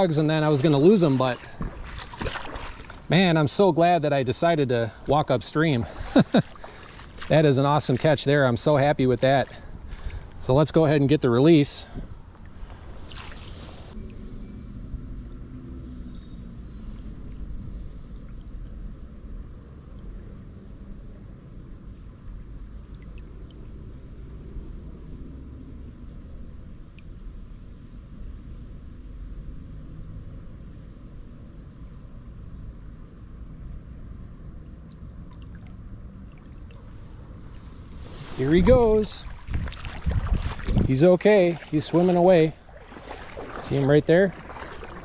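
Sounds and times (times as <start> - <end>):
insect chorus: 0.0 - 45.0.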